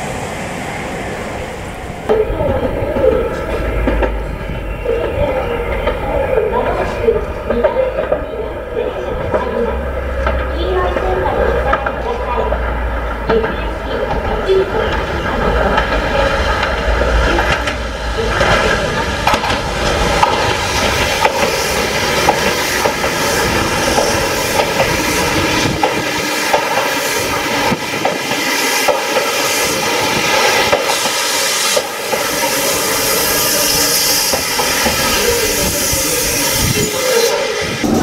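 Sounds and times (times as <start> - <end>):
electric train passing: 0.0 - 38.0
wheels clicking over rail joints: 2.1 - 32.8.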